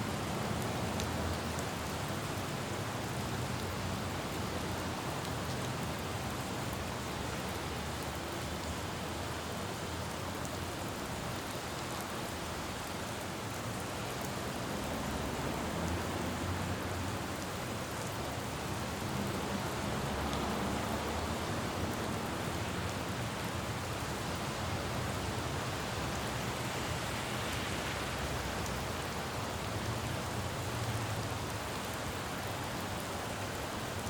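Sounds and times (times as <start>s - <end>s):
rain pattering on a road: 0.0s - 34.0s.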